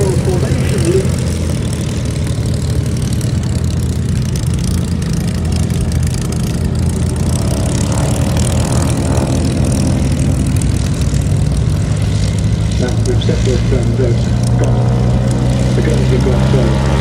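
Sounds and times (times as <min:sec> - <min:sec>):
higher engine note: 0:00.0 - 0:17.0
propeller aircraft engines droning: 0:00.0 - 0:17.0.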